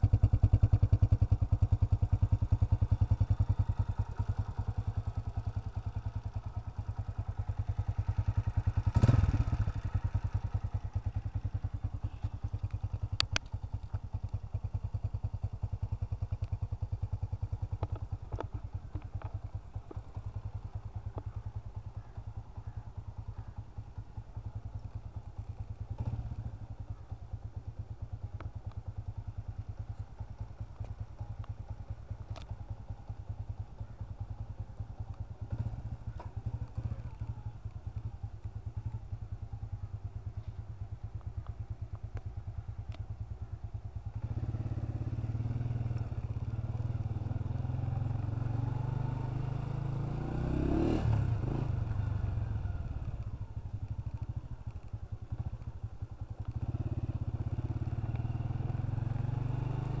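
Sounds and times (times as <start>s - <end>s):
motorcycle engine revving: 0.0s - 23.5s, 24.4s - 39.4s, 43.7s - 60.0s.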